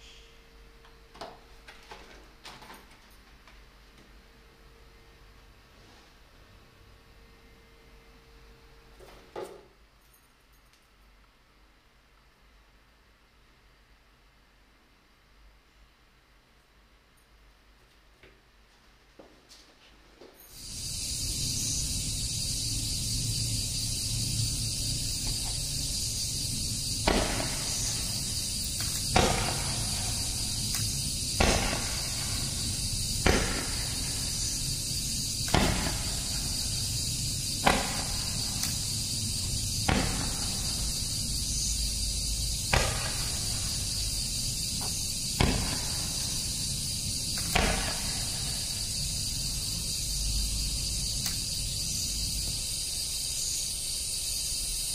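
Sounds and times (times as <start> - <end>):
steady high hiss: 0.0 - 54.9.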